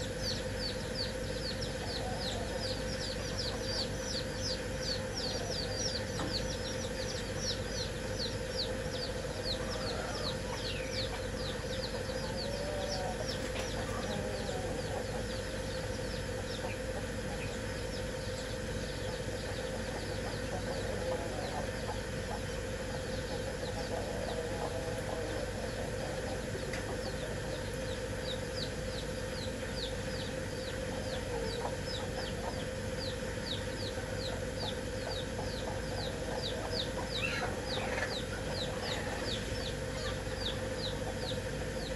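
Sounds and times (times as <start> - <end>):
chicks peeping: 0.0 - 41.9
hen clucking softly: 0.0 - 41.9
steady hum: 0.0 - 41.9.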